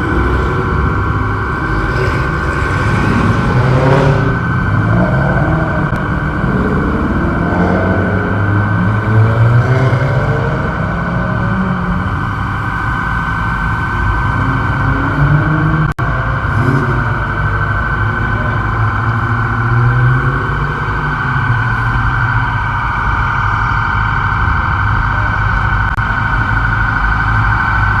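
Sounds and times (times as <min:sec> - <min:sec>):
loud car engines running: 0:00.0 - 0:28.0.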